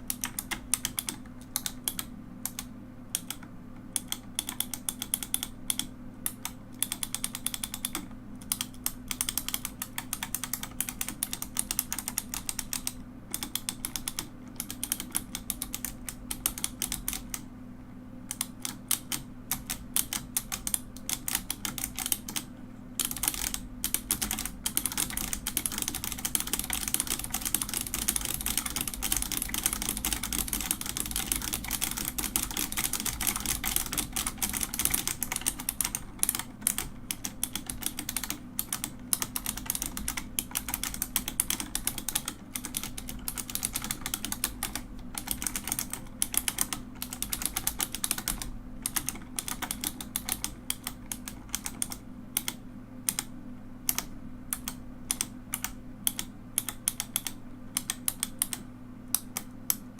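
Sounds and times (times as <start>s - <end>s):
typing on mechanical keyboard: 0.0s - 17.5s, 18.3s - 58.6s.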